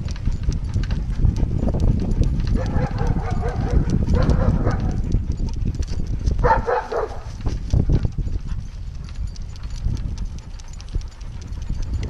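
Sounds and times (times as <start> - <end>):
bicycle rolling on concrete: 0.0 - 12.0.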